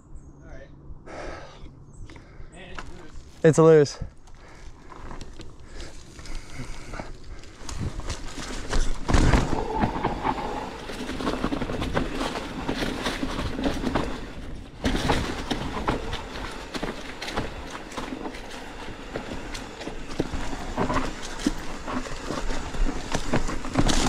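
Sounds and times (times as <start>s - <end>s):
bike tyres on loose dirt: 1.1s - 24.0s
bike rattling and knocking: 2.6s - 24.0s.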